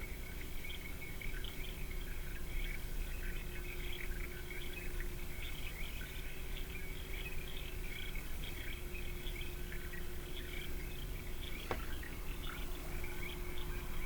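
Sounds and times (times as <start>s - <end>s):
small birds chirping: 0.0s - 14.0s
steady low hum and rumble: 0.0s - 14.0s.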